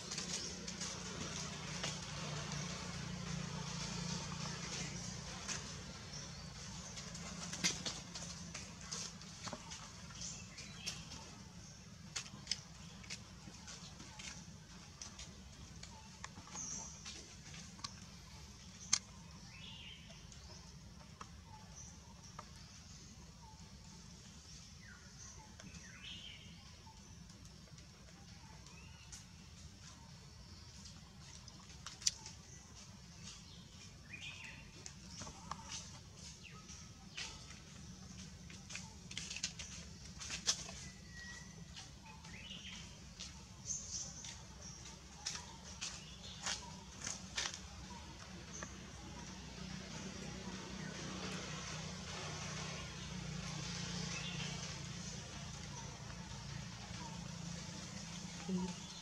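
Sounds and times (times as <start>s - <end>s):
dry leaves crackling: 0.0s - 59.0s.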